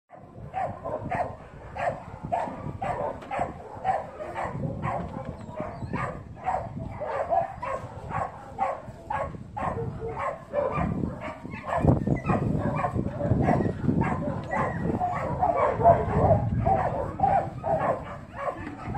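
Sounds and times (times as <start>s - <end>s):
dog barking: 0.1s - 18.9s.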